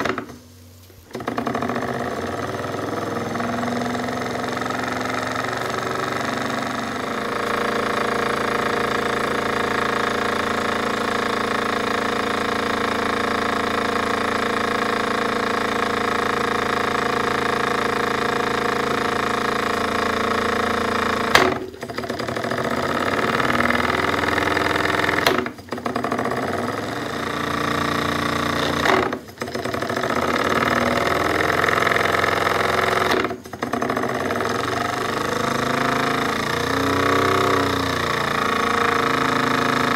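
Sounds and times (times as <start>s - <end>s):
model steam engine running: 1.1s - 39.9s.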